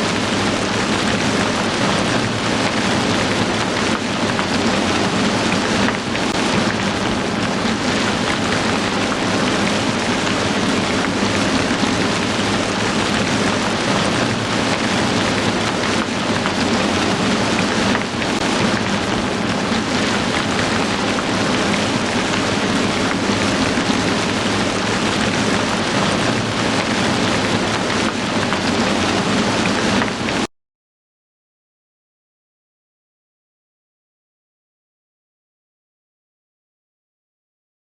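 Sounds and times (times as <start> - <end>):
heavy rain falling: 0.0 - 30.5.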